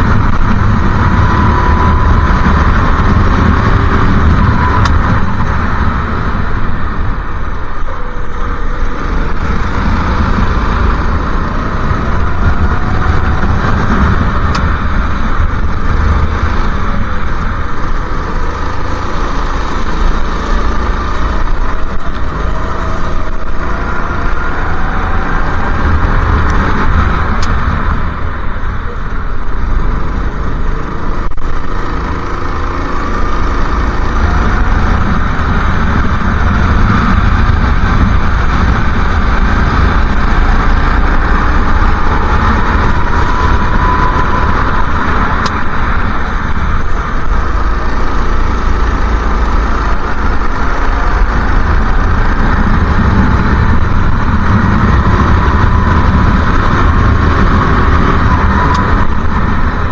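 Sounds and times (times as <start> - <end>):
go-kart engine revving: 0.0 - 59.9
wind rumble on microphone: 0.0 - 59.9.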